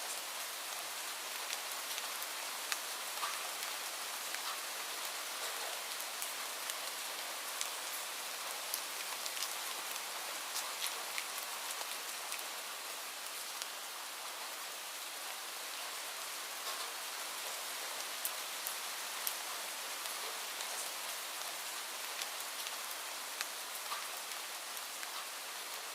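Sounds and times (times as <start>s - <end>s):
rain hissing: 0.0s - 25.9s
raindrops ticking on a surface: 0.0s - 25.9s.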